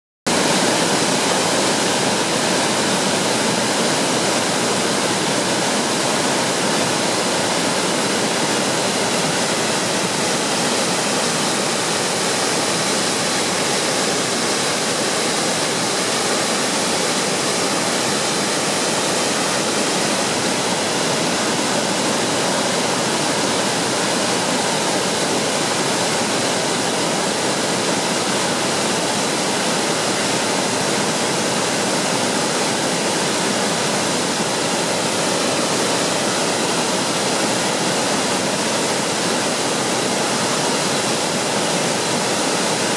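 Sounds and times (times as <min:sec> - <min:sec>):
waterfall rushing: 0:00.3 - 0:42.9.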